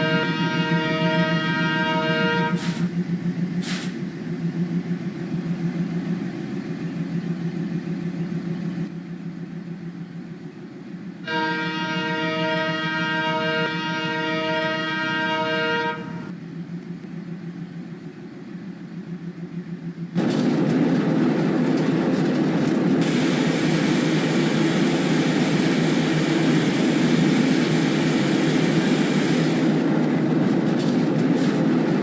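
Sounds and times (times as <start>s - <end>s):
diesel locomotive engine chugging: 0.0s - 32.0s.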